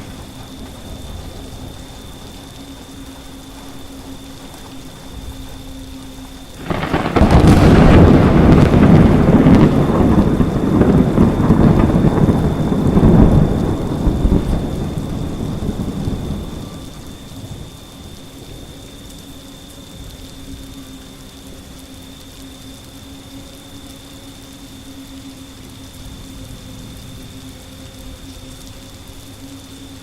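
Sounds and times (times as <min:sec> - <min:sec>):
thunder rumbling: 0:00.0 - 0:21.8, 0:24.8 - 0:30.0
steady rainfall: 0:00.0 - 0:30.0.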